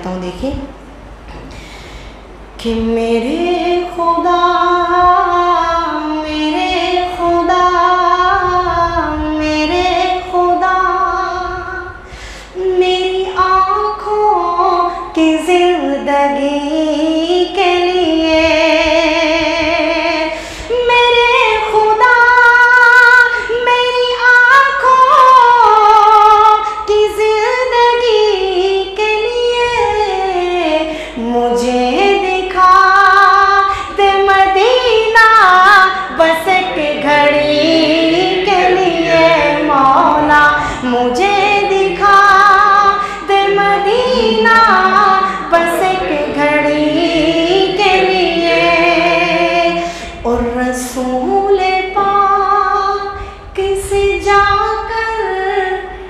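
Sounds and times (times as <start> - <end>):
person singing devotional song: 2.6 - 55.9.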